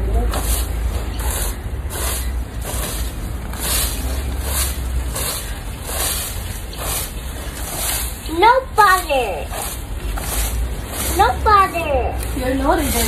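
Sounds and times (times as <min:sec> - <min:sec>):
garden tool scraping soil: 0:00.2 - 0:13.0.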